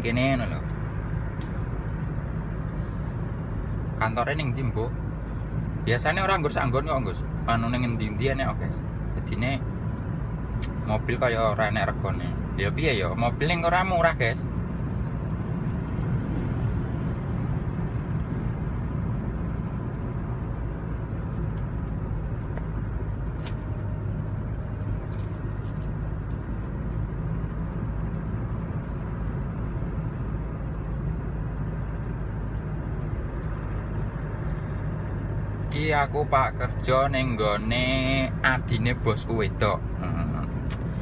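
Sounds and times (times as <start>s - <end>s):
vehicle engine and road noise: 0.0s - 41.0s.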